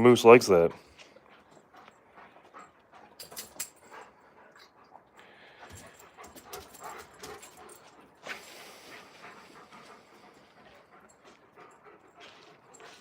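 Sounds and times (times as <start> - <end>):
dogs panting: 0.0 - 13.0.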